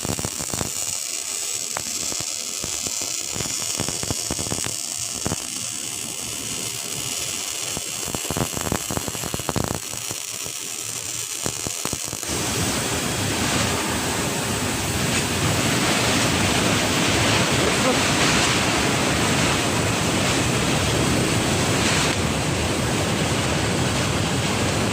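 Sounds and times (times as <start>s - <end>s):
welding arc crackling and hissing: 0.0s - 24.9s
welding sharp pops: 0.0s - 24.9s.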